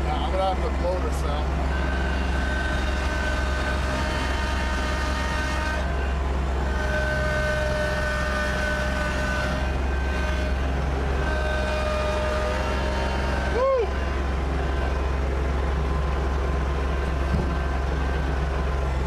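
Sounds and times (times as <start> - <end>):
high whine: 0.0 - 19.0
tractor diesel engine droning: 0.0 - 19.0.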